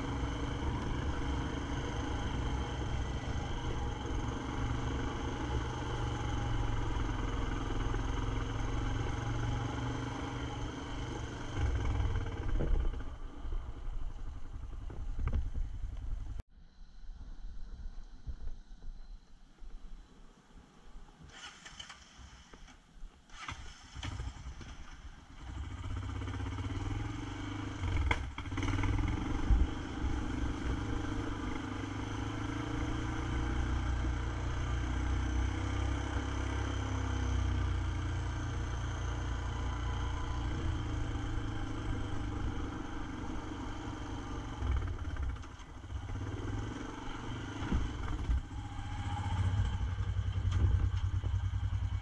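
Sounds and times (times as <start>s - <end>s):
quad bike engine running: 0.0s - 16.4s, 25.4s - 52.0s.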